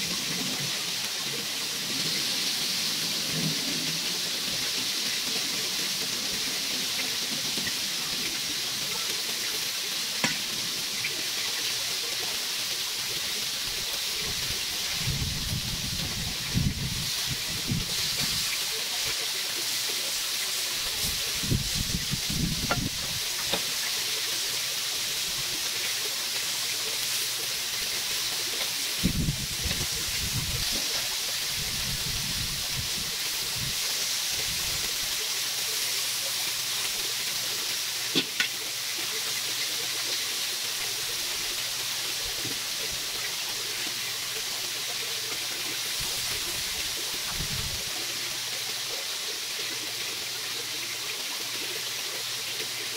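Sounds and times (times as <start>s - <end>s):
chicken sizzling on grill: 0.0s - 52.9s.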